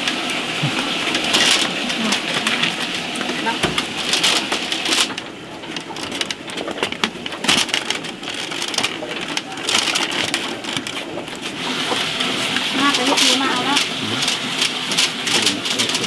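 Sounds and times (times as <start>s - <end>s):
bamboo slats rattling: 0.0s - 16.0s.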